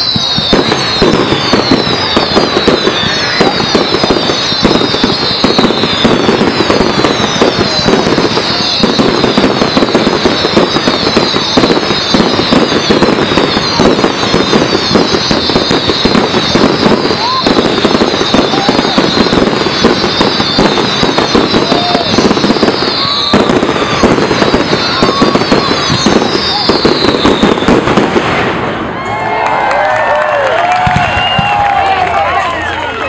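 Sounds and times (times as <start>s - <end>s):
firework whistles falling in pitch: 0.0s - 29.1s, 30.5s - 32.0s
fireworks crackling and popping: 0.0s - 33.0s.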